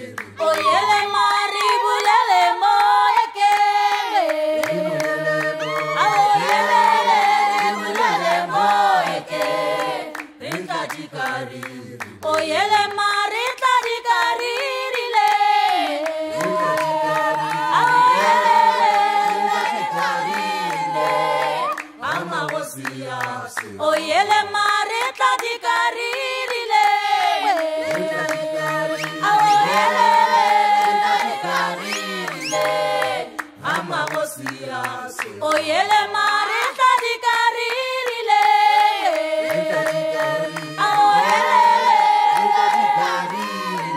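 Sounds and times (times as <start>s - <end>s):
choir singing in harmony: 0.0s - 43.9s.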